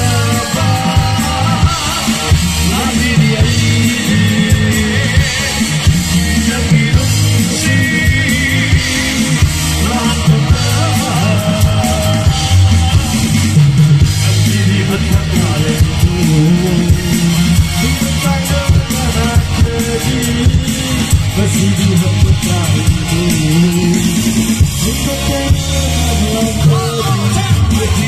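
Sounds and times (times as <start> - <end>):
bass guitar: 0.0 - 28.0
electric guitar: 0.0 - 28.0
man singing: 0.0 - 28.0
steady drum beat: 0.0 - 28.0.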